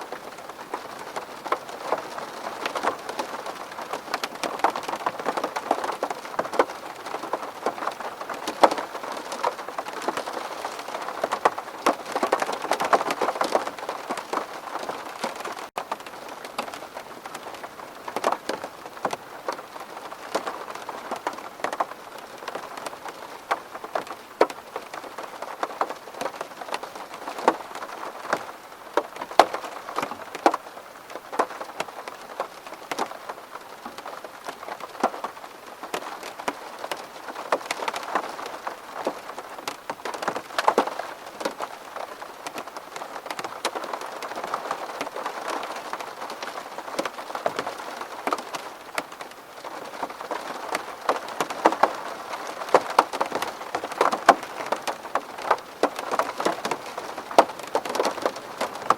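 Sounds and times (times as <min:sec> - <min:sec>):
rain on window glass: 0:00.0 - 0:58.9.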